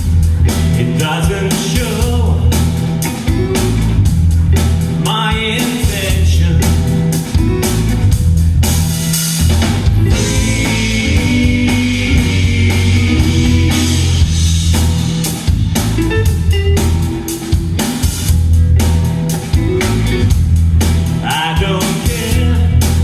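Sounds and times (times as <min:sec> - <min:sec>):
band playing instrumental: 0:00.0 - 0:23.0.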